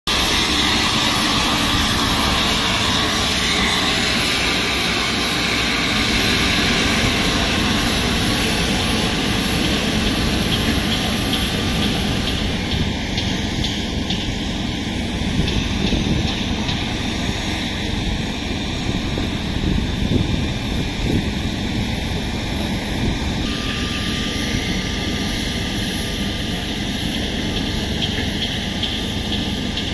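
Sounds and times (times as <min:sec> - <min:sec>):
high turbine whine: 0:00.0 - 0:29.9
turbine engine roar: 0:00.0 - 0:29.9.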